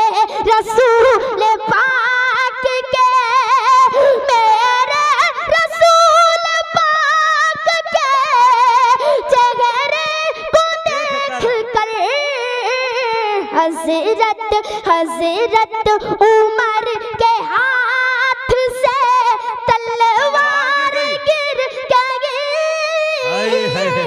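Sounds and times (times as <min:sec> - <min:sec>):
boy singing into a microphone: 0:00.0 - 0:24.0.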